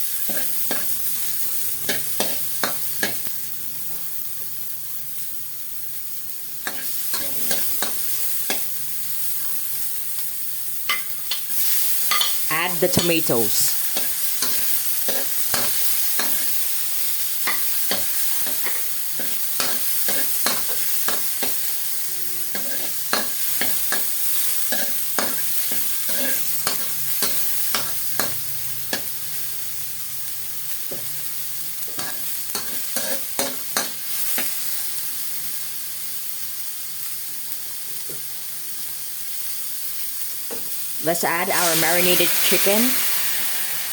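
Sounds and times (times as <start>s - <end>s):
oil sizzling in a pan: 0.0s - 43.9s.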